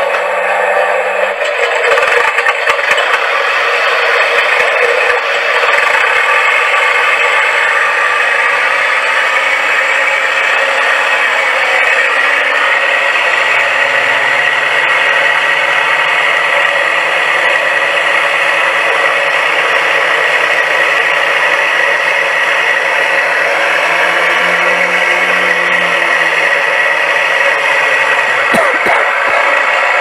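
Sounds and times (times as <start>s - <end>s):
tinny simulated engine sound: 0.0s - 30.0s.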